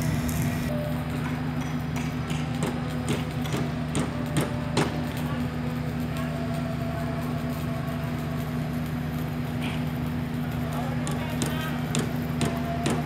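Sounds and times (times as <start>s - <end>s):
pile driver engine running: 0.0s - 13.0s.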